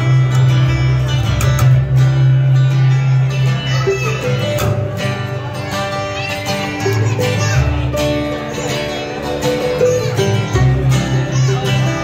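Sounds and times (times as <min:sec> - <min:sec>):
mandolin: 0:00.0 - 0:12.0
plucked double bass: 0:00.0 - 0:12.0
strummed acoustic guitar: 0:00.0 - 0:12.0.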